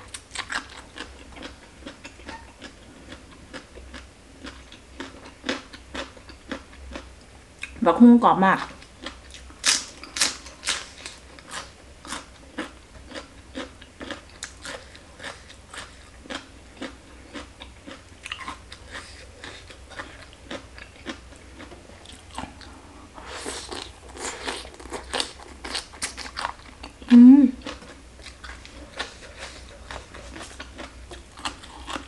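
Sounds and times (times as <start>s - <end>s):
crunching and chewing: 0.0s - 7.8s, 8.7s - 32.0s.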